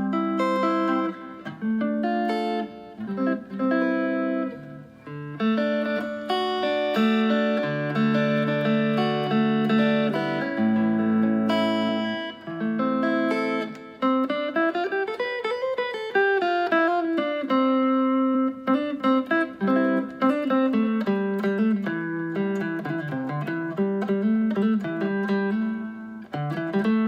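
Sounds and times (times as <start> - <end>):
electric guitar slow melody: 0.0 - 27.0.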